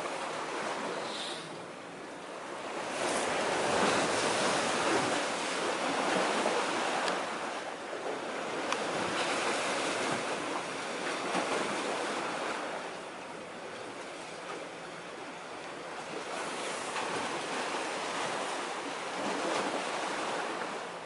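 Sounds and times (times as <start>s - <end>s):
waves washing against concrete: 0.0s - 1.7s, 2.4s - 13.0s, 15.8s - 21.0s.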